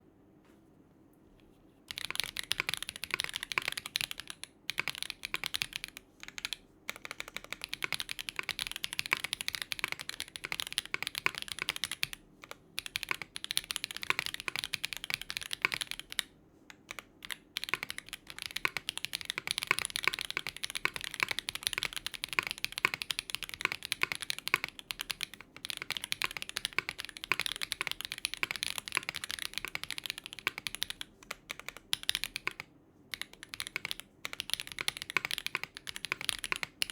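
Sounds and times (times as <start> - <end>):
mechanical keyboard typing: 1.9 - 36.9.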